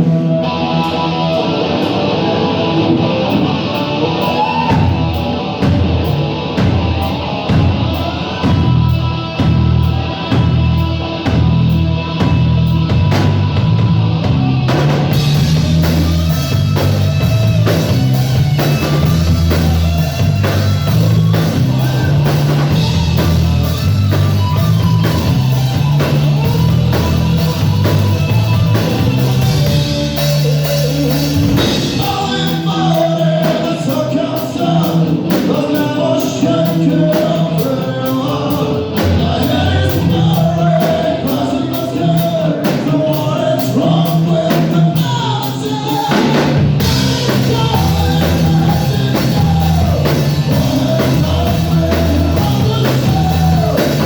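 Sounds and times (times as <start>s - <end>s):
person singing: 0.0s - 12.5s, 15.1s - 54.0s
bass and guitar riff: 0.0s - 54.0s
drum kit: 0.0s - 54.0s.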